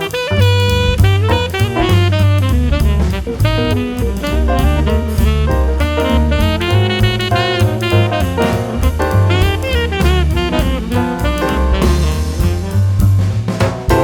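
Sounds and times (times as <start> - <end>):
saxophone melody: 0.0 - 13.3
jazz music: 0.0 - 14.0.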